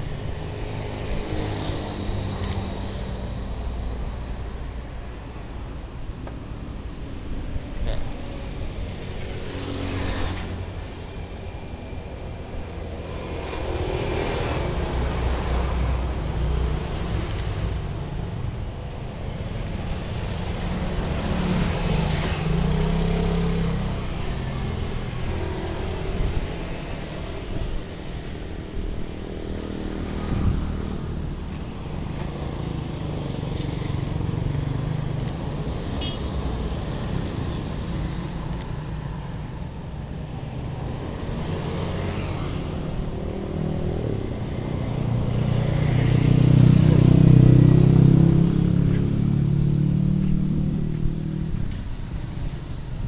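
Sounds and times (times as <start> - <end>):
low traffic rumble: 0.0 - 53.0
motorcycles and cars passing: 0.0 - 53.0.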